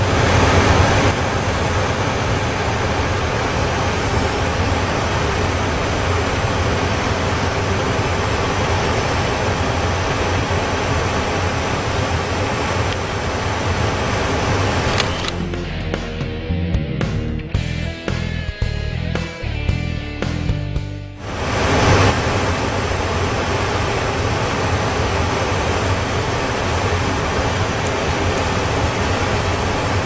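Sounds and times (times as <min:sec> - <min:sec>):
jet engine cabin roar: 0:00.0 - 0:16.3, 0:21.2 - 0:30.0
low hum: 0:00.0 - 0:17.4, 0:21.2 - 0:30.0.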